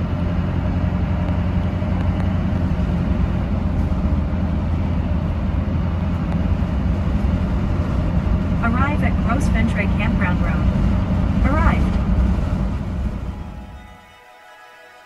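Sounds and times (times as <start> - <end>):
engine and tyre rumble: 0.0 - 13.8.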